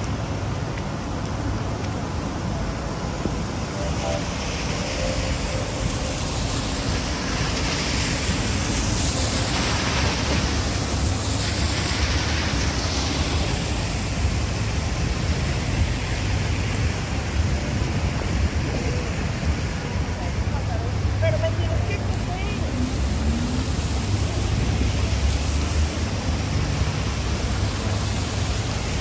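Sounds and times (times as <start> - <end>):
heavy rain: 0.0 - 29.0
wind: 0.0 - 29.0
wind buffeting on microphone: 0.0 - 29.0.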